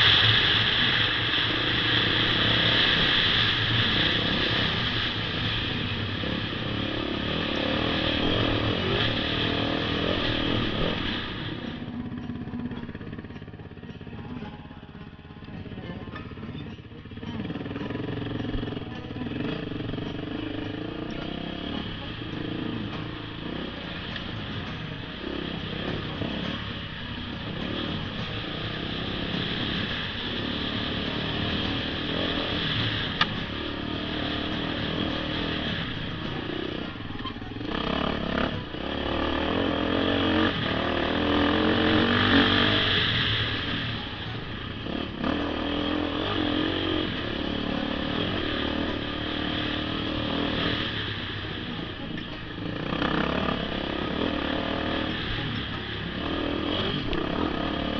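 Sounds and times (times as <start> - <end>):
dirt bike engine revving: 0.0 - 14.4, 17.1 - 57.9.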